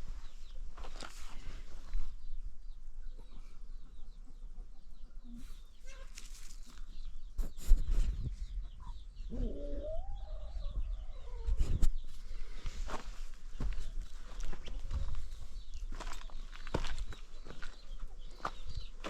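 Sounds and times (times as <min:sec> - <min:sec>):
small birds chirping: 0:00.0 - 0:19.0
chickens calling: 0:00.2 - 0:19.0.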